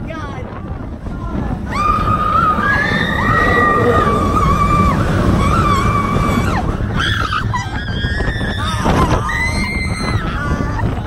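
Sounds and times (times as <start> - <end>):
ride low rumble: 0.0 - 11.0
riders whooping: 1.6 - 11.0.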